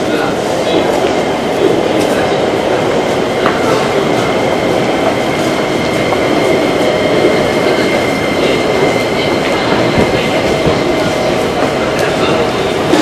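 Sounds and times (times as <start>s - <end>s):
busy railway platform din: 0.0s - 13.0s.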